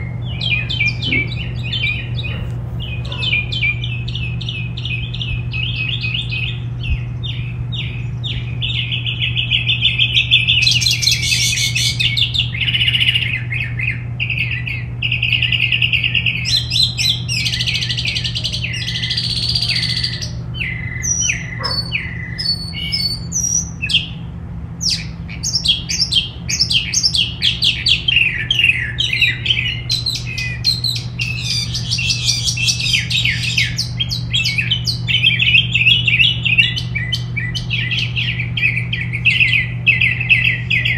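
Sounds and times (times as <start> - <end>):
songbirds chirping and singing: 0.0 - 40.9
steady low hum: 0.0 - 40.9.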